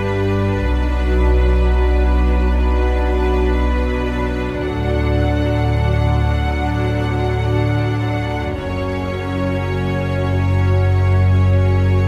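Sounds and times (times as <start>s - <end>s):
calm slow instrumental music: 0.0s - 12.0s.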